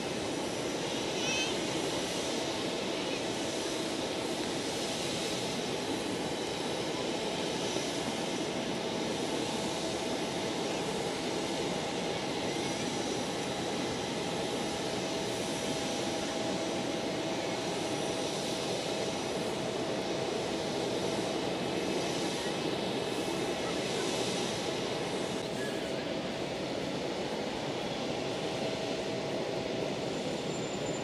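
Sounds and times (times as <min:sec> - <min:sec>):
high jet whine: 0:00.0 - 0:31.0
jet airliners running: 0:00.0 - 0:31.0.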